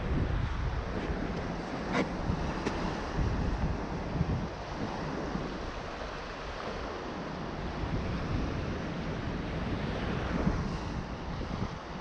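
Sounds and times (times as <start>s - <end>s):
small waves breaking: 0.0s - 12.0s
wind buffeting microphone: 0.0s - 12.0s.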